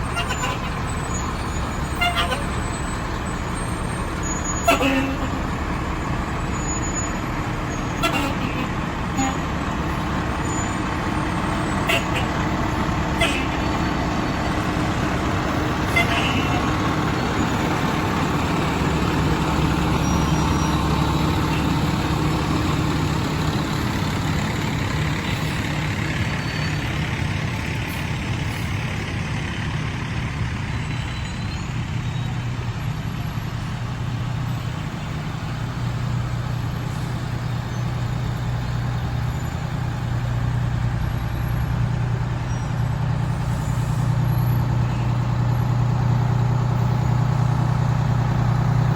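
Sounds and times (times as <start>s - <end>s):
diesel truck engines droning: 0.0s - 48.9s.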